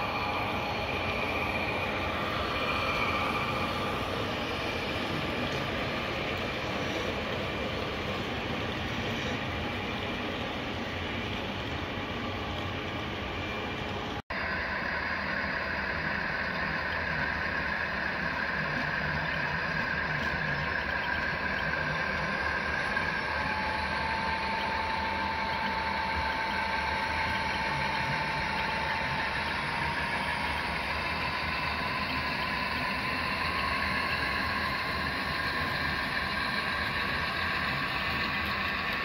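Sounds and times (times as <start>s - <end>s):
high steady whine: 0.0s - 39.0s
lower whine: 0.0s - 39.0s
model train motor hum: 0.0s - 39.0s.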